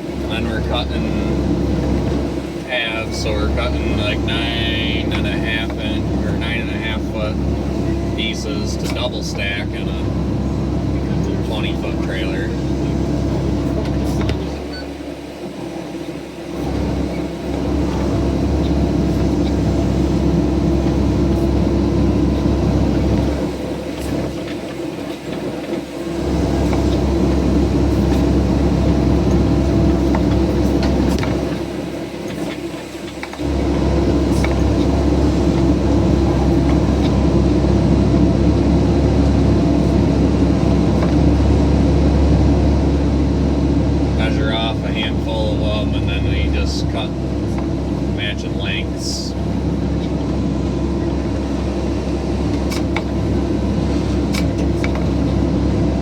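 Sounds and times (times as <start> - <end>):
excavator diesel engine under load: 0.0 - 56.0.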